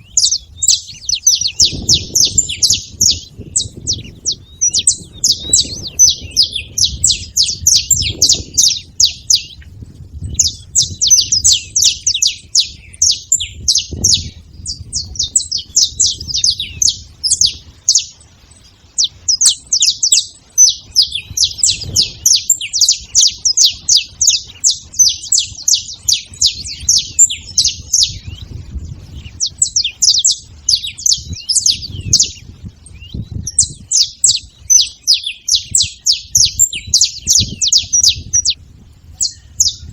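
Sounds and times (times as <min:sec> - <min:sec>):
finch singing high chipping notes: 0:00.0 - 0:38.6.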